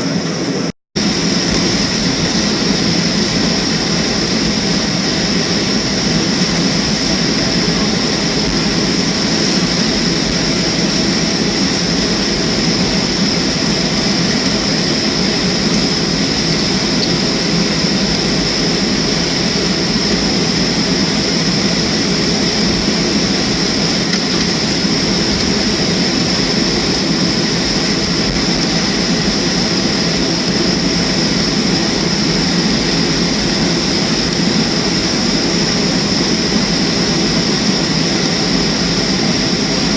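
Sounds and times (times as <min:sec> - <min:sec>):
jet engine rumble and whine in cabin: 0:00.0 - 0:39.9.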